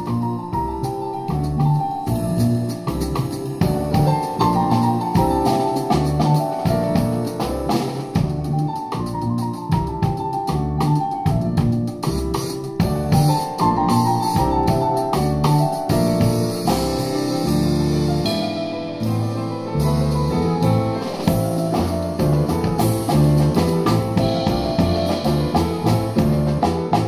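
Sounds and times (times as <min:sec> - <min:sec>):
double bass: 0:00.0 - 0:27.0
drum kit played with sticks: 0:00.0 - 0:27.0
grand piano: 0:00.0 - 0:27.0.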